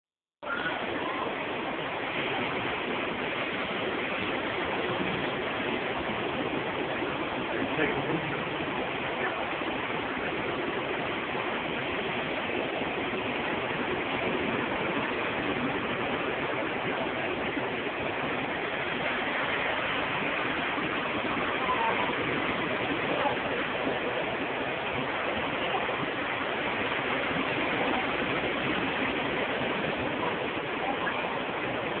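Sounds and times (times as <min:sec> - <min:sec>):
ocean surf breaking on beach: 0:00.4 - 0:32.0.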